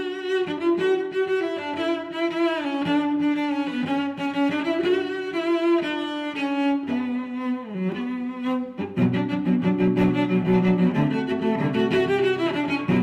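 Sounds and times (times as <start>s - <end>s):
bowed strings slow melody: 0.0s - 13.0s.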